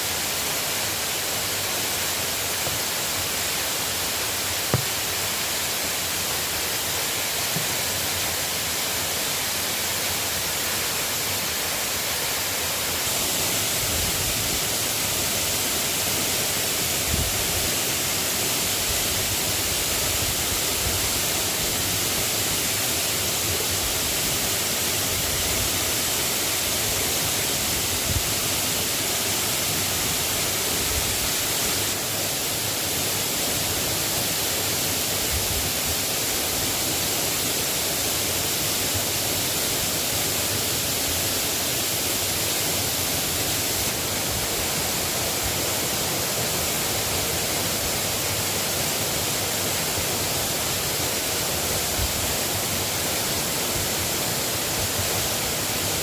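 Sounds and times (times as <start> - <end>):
light rain hissing: 0.0 - 56.0.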